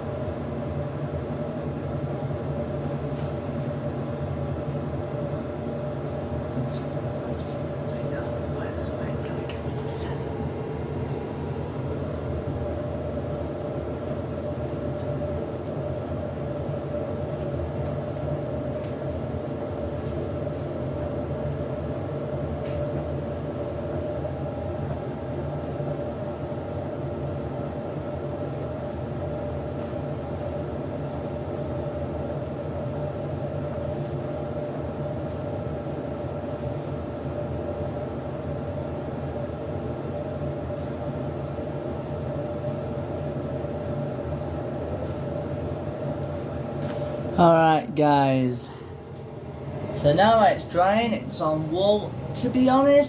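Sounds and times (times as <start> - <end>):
tumble dryer motor hum: 0.0 - 53.0.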